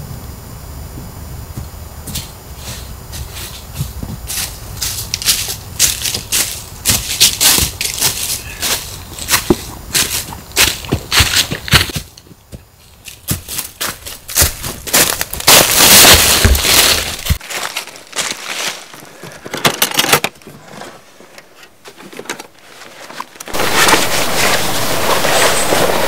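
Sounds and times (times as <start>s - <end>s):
footsteps crunching dry leaves: 1.5s - 19.2s, 22.6s - 26.0s.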